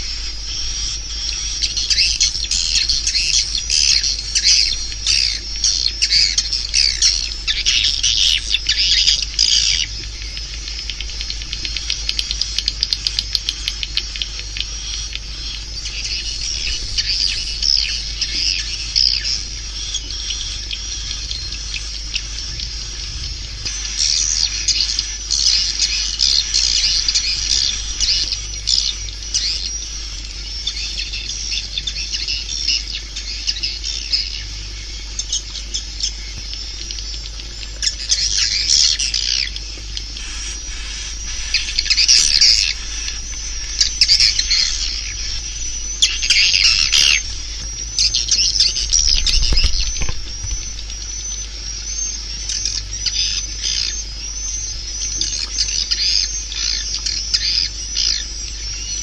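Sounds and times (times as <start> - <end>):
birds twittering: 0.0 - 59.0
faint low hum: 0.0 - 59.0.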